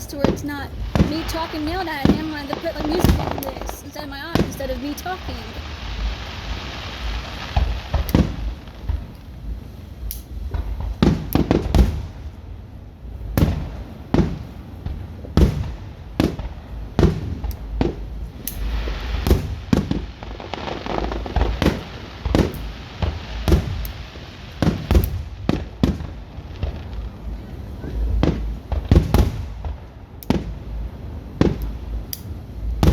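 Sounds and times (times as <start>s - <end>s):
continuous low rumble: 0.0s - 32.9s
fireworks cracks and booms: 0.0s - 32.9s.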